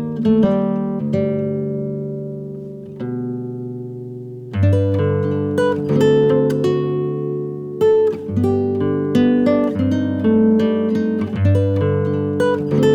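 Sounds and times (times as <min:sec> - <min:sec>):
acoustic guitar picking: 0:00.0 - 0:12.9.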